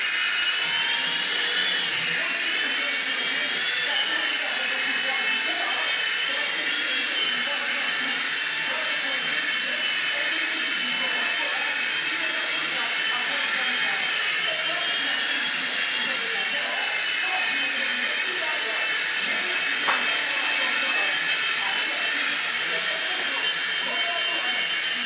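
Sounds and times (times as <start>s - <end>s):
toy helicopter rotors whining: 0.0s - 25.0s.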